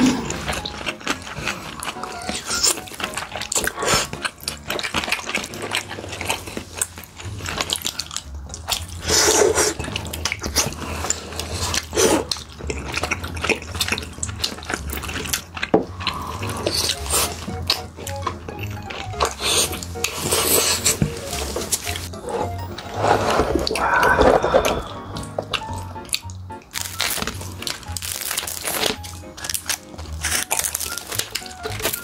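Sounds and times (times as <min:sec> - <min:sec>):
wet chewing and smacking: 0:00.0 - 0:23.0, 0:23.6 - 0:32.0.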